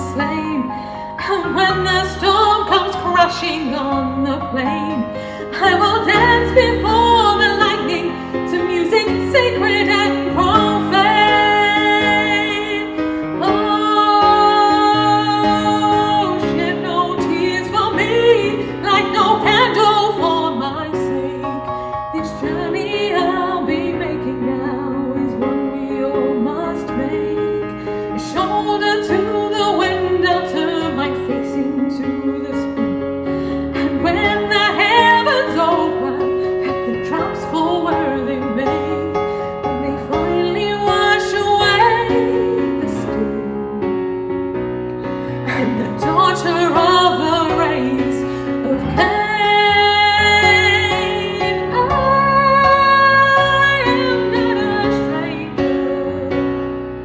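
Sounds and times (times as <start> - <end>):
woman singing a ballad: 0.0 - 56.6
piano and orchestra: 0.0 - 57.0.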